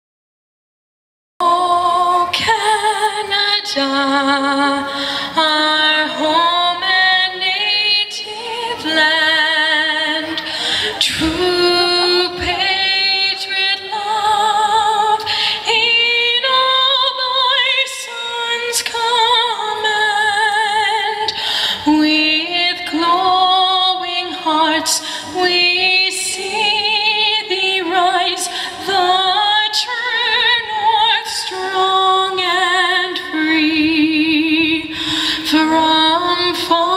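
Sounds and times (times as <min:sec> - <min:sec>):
woman singing with vibrato: 0:01.4 - 0:36.9.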